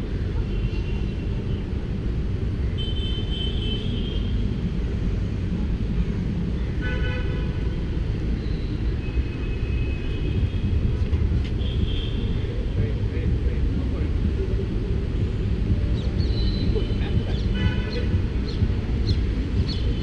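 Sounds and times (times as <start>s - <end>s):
low street traffic rumble: 0.0s - 20.0s.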